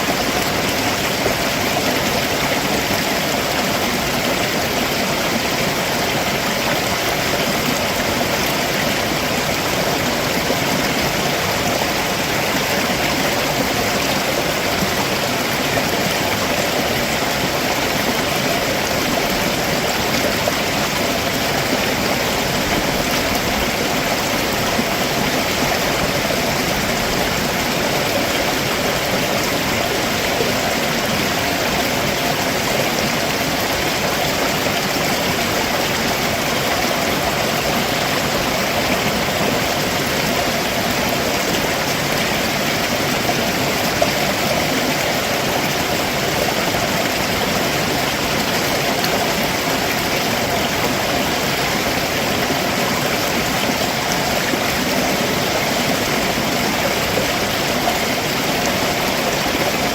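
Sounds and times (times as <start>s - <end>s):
stream water rushing over rocks: 0.0s - 59.9s.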